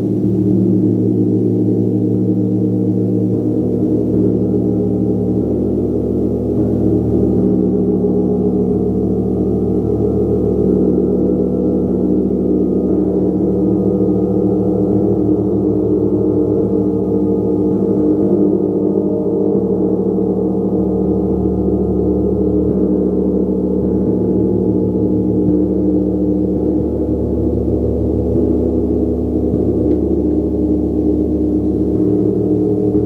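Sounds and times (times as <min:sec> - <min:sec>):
large gong shimmering: 0:00.0 - 0:33.0.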